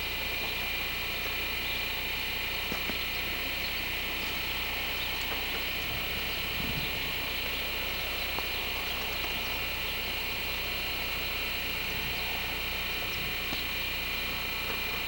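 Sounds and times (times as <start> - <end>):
high-pitched tape whine: 0.0 - 15.0
low hum: 0.0 - 15.0.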